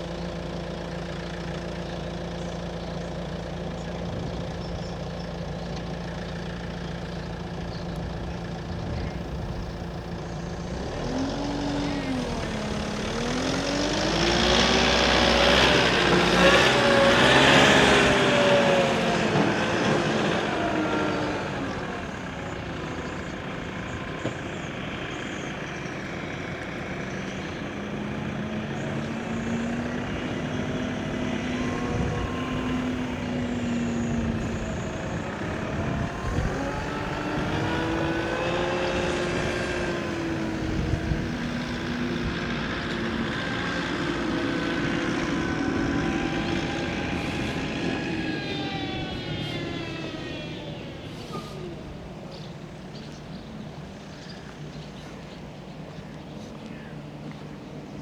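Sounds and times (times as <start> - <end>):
passing vehicle engines: 0.0 - 58.0.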